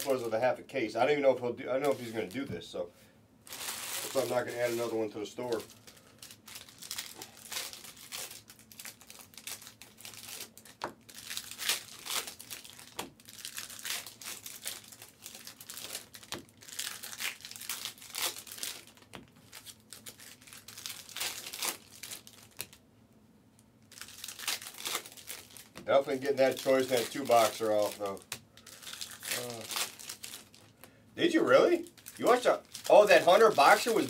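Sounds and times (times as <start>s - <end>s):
foil wrappers crinkling and tearing: 0.0s - 0.4s, 1.1s - 2.5s, 3.4s - 22.8s, 23.8s - 34.0s.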